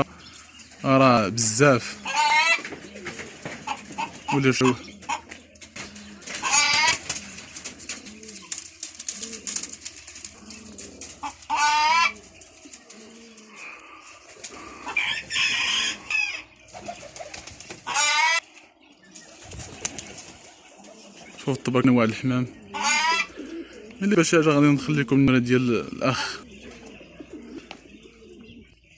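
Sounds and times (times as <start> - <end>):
chicken calls: 0.0 - 28.9
pigeons cooing: 0.0 - 28.9.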